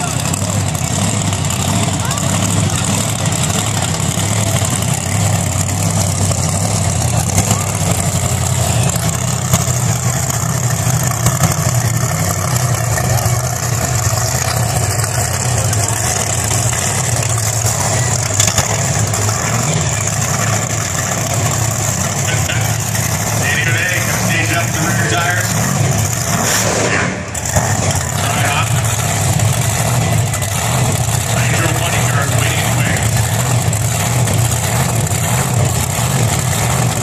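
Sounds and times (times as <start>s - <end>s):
car engine running steadily: 0.0s - 37.0s.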